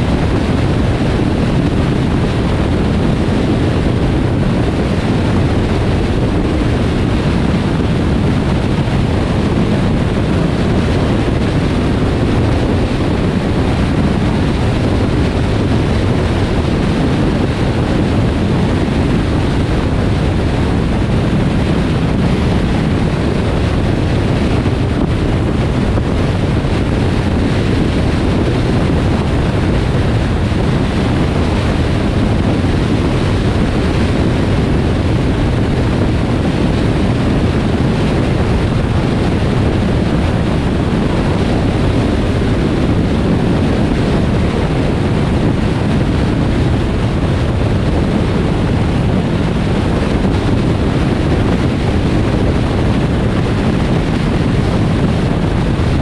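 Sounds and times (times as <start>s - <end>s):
wind and road noise from car: 0.0s - 56.0s.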